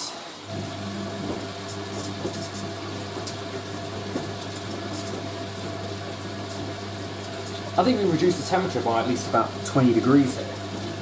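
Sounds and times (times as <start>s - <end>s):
water running in: 0.0s - 11.0s.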